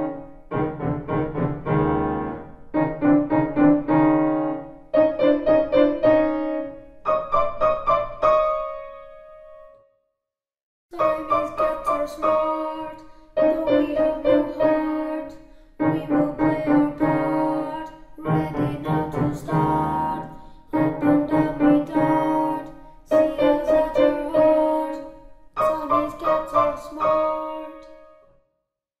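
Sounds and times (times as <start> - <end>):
simple piano piece: 0.0 - 10.1, 10.9 - 28.5.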